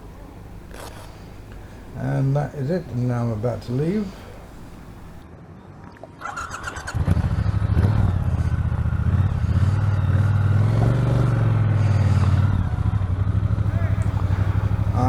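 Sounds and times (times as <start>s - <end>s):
motorcycle engine idling: 0.0s - 5.2s, 7.2s - 15.0s.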